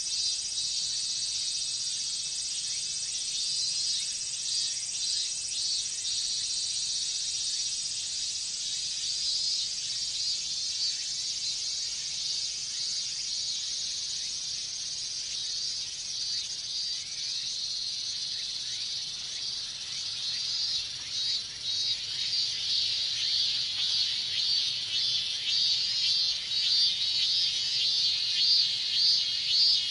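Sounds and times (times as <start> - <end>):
cicadas buzzing: 0.0 - 29.9.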